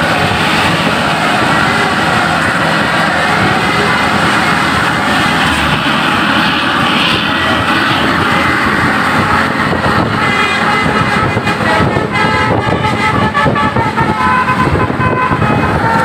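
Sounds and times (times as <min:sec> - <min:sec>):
bus engine and road noise: 0:00.0 - 0:16.0
multi-note bus horn: 0:00.0 - 0:16.0.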